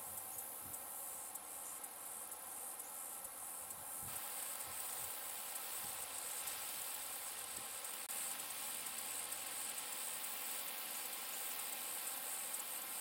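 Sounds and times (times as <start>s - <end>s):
high-pitched insect chorus: 0.0s - 13.0s
soft even hiss: 0.0s - 13.0s.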